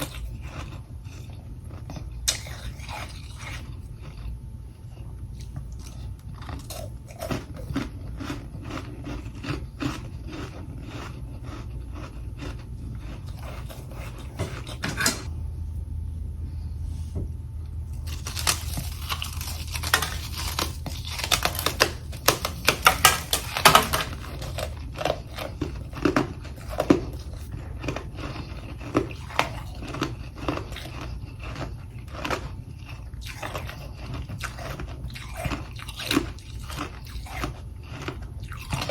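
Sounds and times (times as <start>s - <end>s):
crunching frost being chewed: 0.0s - 15.4s, 17.7s - 38.9s
low steady hum: 0.0s - 38.9s.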